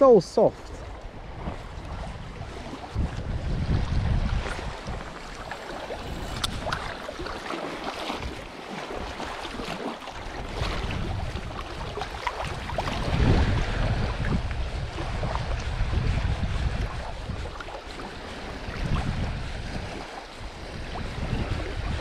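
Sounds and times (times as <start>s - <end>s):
waves lapping on rocks: 0.0s - 22.0s
wind buffeting microphone: 0.0s - 22.0s.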